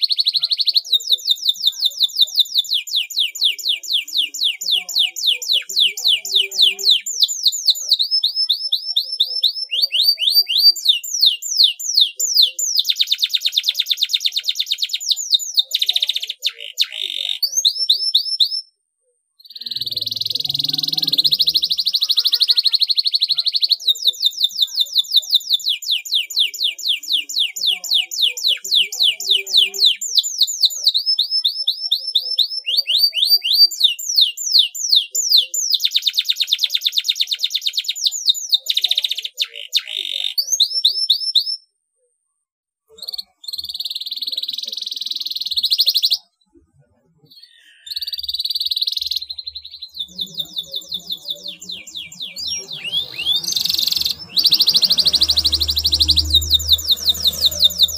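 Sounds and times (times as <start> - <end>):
canary singing trills: 0.0 - 18.8, 19.4 - 41.7, 42.9 - 57.9.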